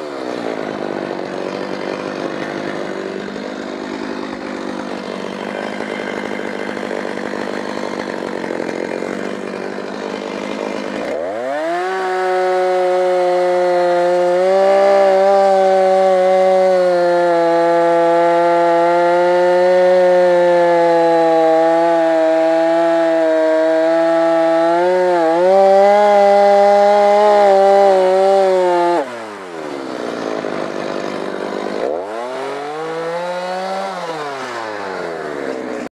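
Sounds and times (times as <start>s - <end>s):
chainsaw cutting log: 0.0s - 35.9s.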